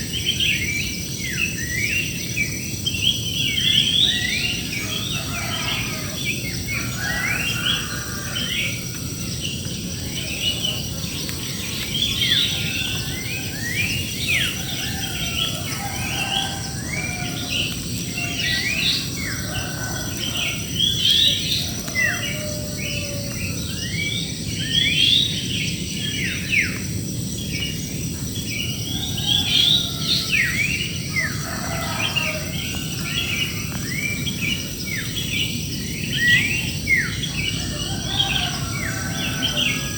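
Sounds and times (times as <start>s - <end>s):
birds chirping and calling: 0.0s - 39.9s
high insect drone: 0.0s - 39.9s.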